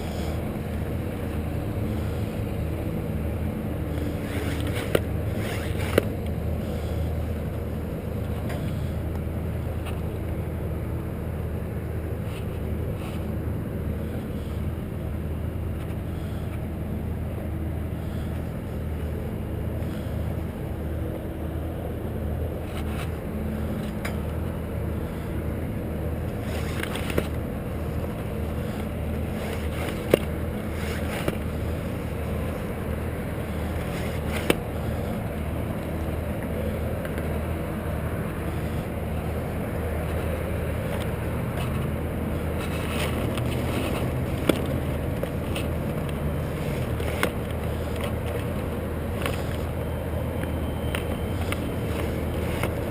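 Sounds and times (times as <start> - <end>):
steady engine drone: 0.0 - 52.9.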